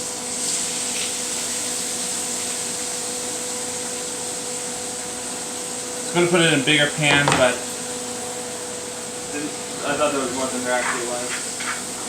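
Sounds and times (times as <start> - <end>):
shrimp sizzling in a frying pan: 0.0 - 12.0.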